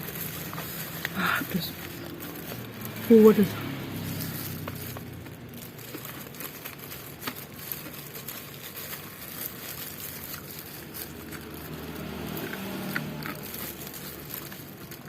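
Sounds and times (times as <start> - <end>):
food clicks and crinkling: 0.0 - 15.0.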